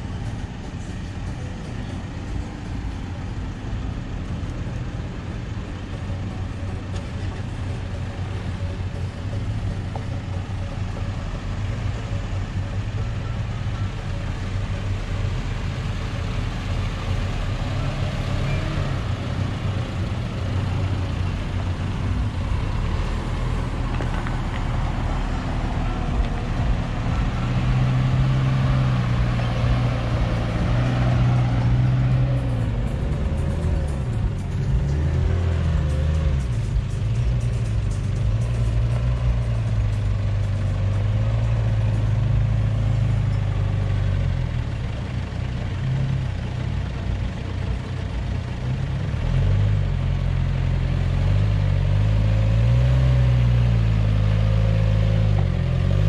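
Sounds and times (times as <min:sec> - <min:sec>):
off-road vehicle engines droning: 0:00.0 - 0:56.0.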